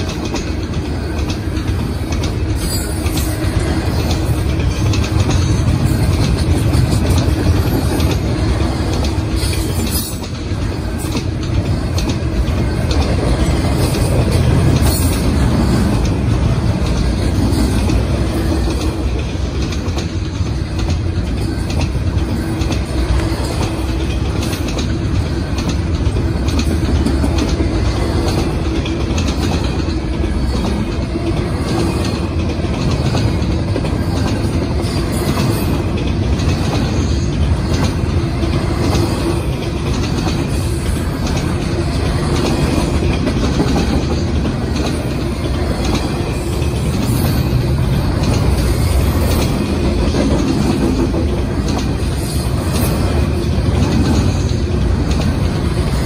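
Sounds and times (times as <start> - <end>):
freight train wheels rumbling: 0.0 - 56.0
wheels clicking over rail joints: 0.0 - 56.0.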